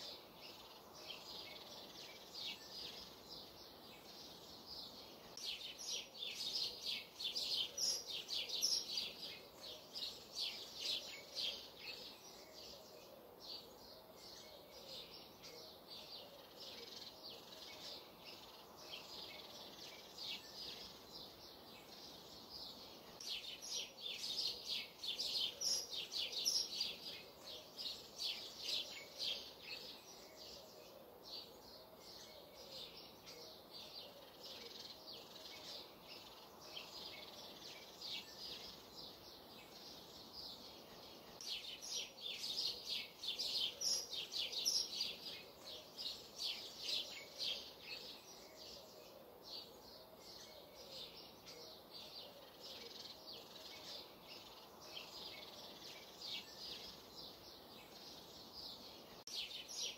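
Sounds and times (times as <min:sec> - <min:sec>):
faint steady hiss: 0:00.0 - 0:59.9
songbirds chirping and singing: 0:00.0 - 0:59.9.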